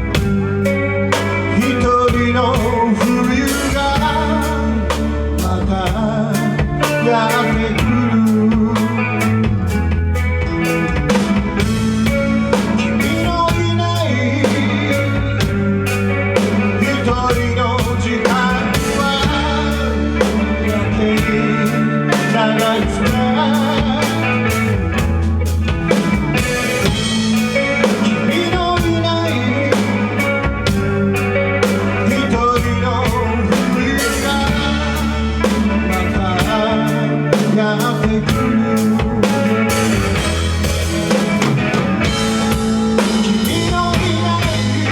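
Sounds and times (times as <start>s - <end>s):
drum kit beat: 0.0s - 44.9s
rock band playing: 0.0s - 44.9s.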